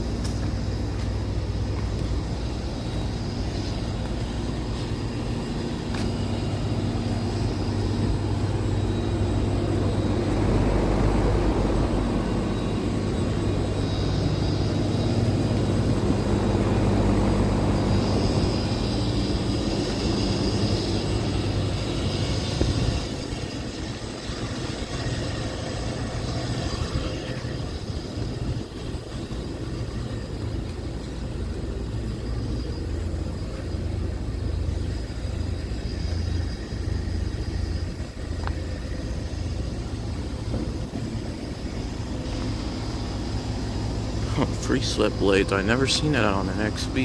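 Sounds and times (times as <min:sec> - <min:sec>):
compressor hum: 0:00.0 - 0:47.0
condenser fans whooshing: 0:00.0 - 0:47.0.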